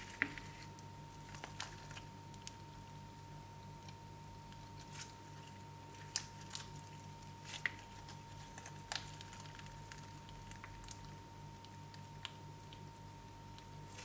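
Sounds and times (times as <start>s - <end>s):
slime crackling and popping: 0.0s - 2.8s, 3.8s - 14.0s
faint steady hum: 0.0s - 14.0s.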